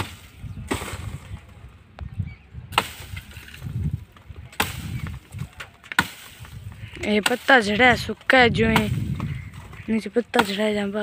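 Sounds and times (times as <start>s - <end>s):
pole striking tree branches: 0.0s - 1.5s, 2.7s - 11.0s.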